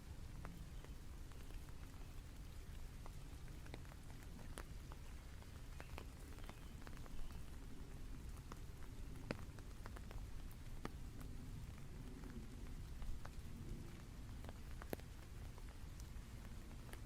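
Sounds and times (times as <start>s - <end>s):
rain falling: 0.0s - 17.0s
raindrops ticking: 0.0s - 17.0s.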